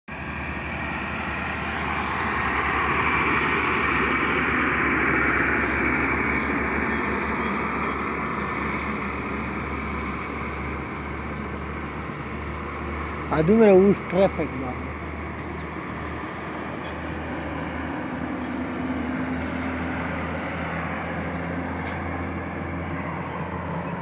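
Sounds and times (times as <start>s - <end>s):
road noise: 0.1s - 24.0s
truck engine rumble: 0.1s - 24.0s.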